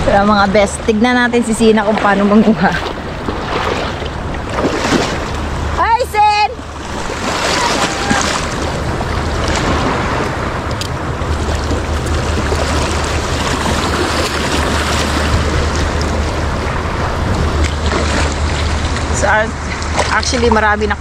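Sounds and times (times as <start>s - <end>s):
wind buffeting microphone: 0.0s - 21.0s
sea water washing in shallows: 1.6s - 21.0s.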